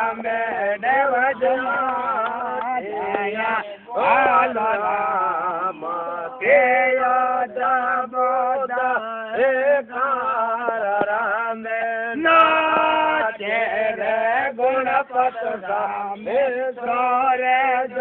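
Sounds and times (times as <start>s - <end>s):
man singing a chant: 0.0s - 18.0s.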